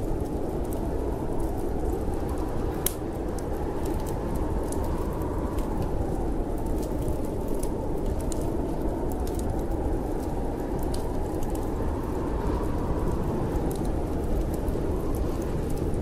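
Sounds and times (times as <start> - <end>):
storm wind rushing: 0.0 - 16.0
wood fire crackling: 0.0 - 16.0.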